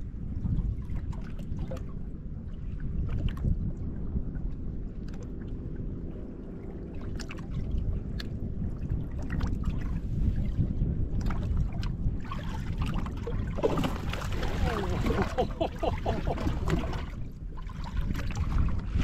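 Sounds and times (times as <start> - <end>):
low rumble of wind and water: 0.0 - 19.0.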